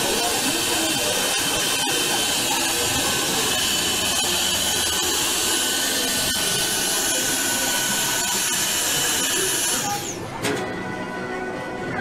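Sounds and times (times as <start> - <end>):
vacuum pump hissing: 0.0 - 10.1.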